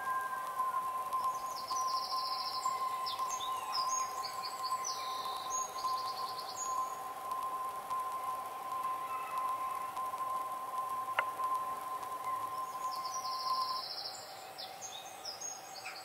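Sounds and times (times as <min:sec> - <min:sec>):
faint hiss: 0:00.0 - 0:16.0
bird chirps and trills: 0:00.2 - 0:16.0.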